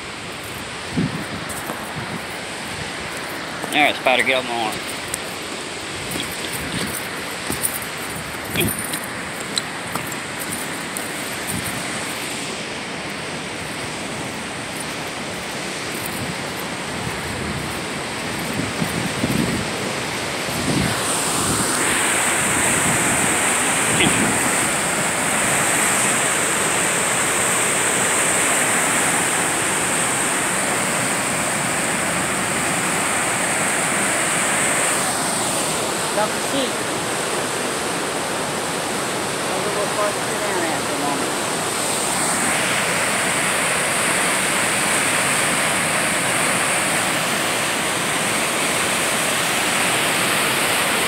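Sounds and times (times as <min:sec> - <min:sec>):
rushing whitewater: 0:00.0 - 0:51.0.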